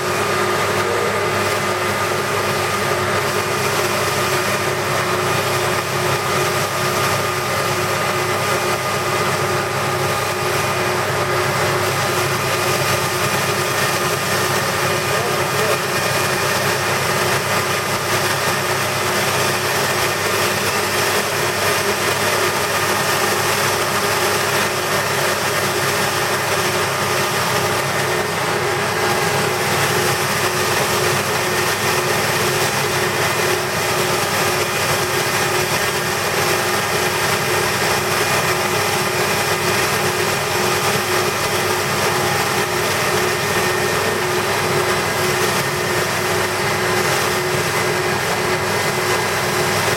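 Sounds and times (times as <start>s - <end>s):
grinding machine hissing and whining: 0.0s - 49.9s.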